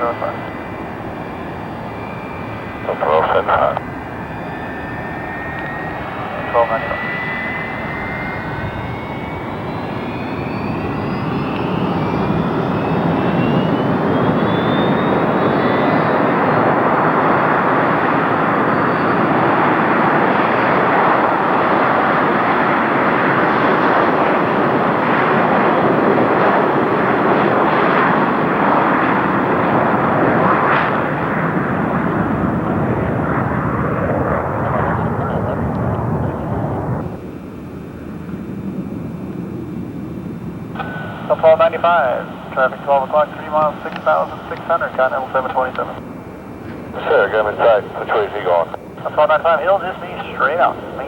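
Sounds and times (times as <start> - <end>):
airliner rolling down runway: 0.0 - 51.0
jet engines whining: 0.0 - 51.0.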